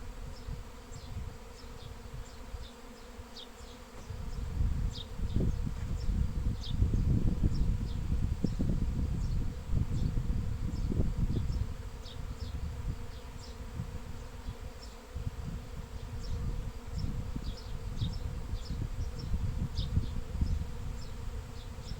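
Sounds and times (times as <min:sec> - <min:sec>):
honeybee swarm buzzing: 0:00.0 - 0:21.9.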